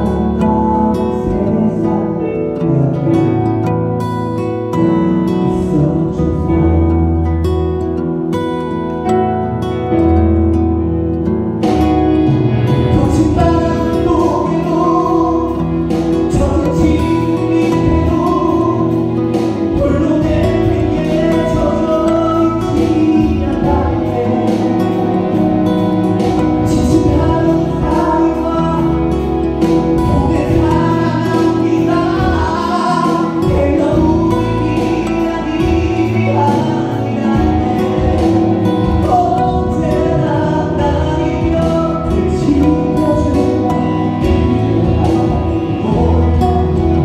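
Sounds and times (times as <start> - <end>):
man singing into a microphone: 0.0 - 7.6, 12.6 - 47.0
instrumental backing music: 0.0 - 47.0.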